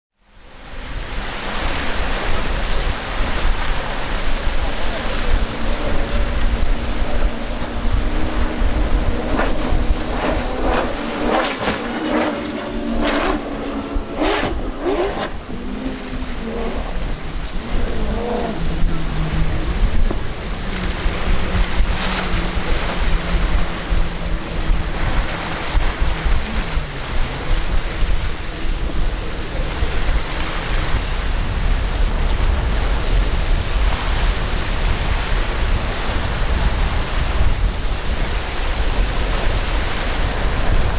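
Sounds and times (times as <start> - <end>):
surf: 0.2 - 40.9
wind on microphone: 0.3 - 40.9
outboard engines running: 0.4 - 40.9.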